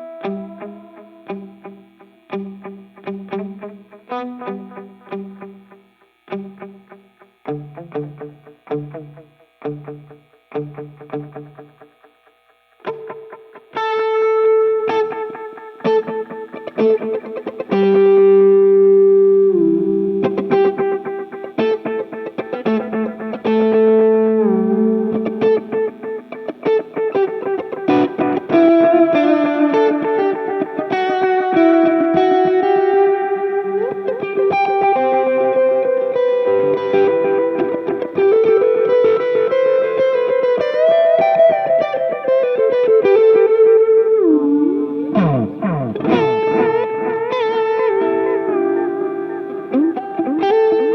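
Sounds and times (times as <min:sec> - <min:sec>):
electric guitar lead line: 0:00.0 - 0:50.9.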